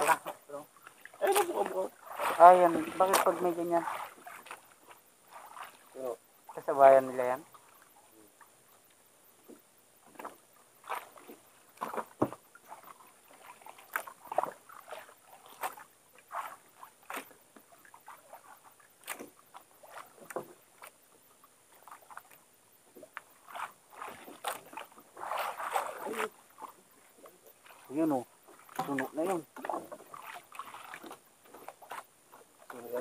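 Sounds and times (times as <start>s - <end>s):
water slapping against boat hull: 0.0s - 6.0s, 9.4s - 21.0s, 21.8s - 33.0s
faint hiss: 0.0s - 33.0s.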